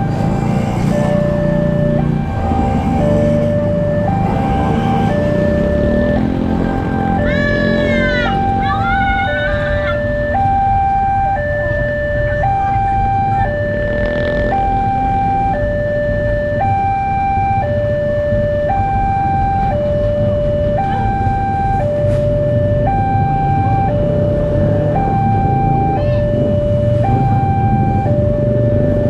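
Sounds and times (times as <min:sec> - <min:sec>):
two-tone crossing alarm: 0:00.0 - 0:29.0.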